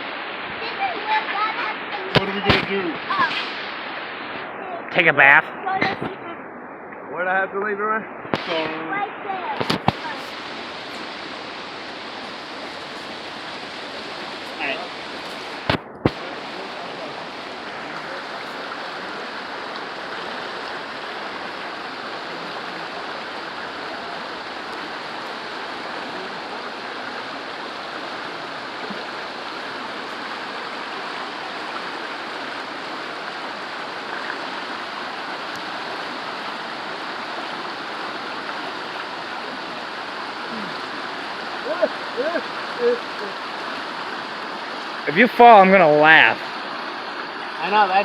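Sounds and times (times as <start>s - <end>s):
waterfall and creek water rushing: 0.0s - 48.0s.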